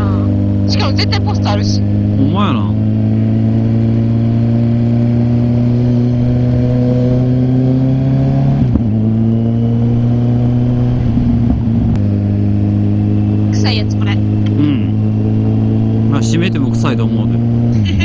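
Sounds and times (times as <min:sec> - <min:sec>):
motorcycle engine running: 0:00.0 - 0:07.9, 0:08.8 - 0:18.0.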